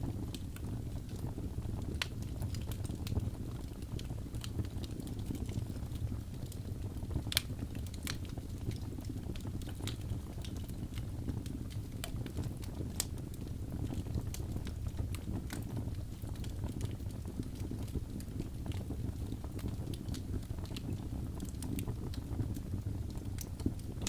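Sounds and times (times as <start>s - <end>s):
logs crackling and popping: 0.0s - 24.0s
low rumble of flames: 0.0s - 24.0s.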